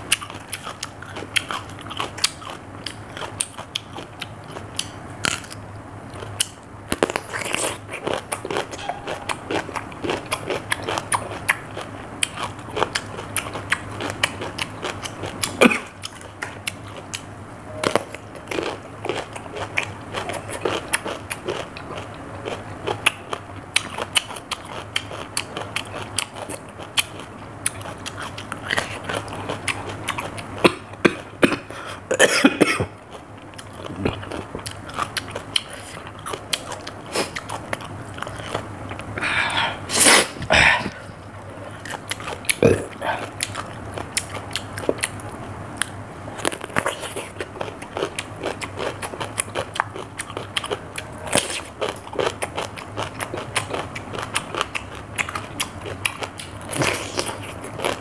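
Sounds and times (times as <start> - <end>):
person crunching cucumber: 0.0 - 31.8, 32.9 - 58.0.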